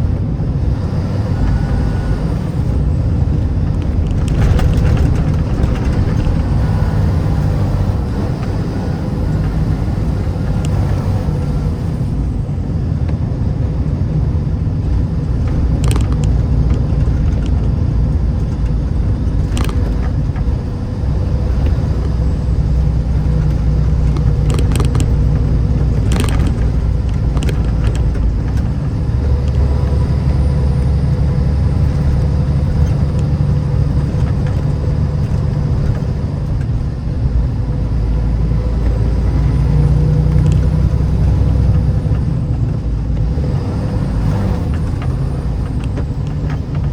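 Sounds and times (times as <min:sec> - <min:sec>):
vehicle engine and tyres rumbling: 0:00.0 - 0:46.9.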